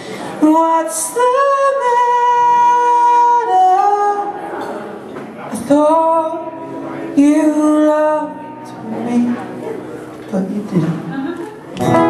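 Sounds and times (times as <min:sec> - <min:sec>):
man singing: 0:00.0 - 0:04.8, 0:05.4 - 0:11.1
acoustic guitar: 0:00.0 - 0:12.0.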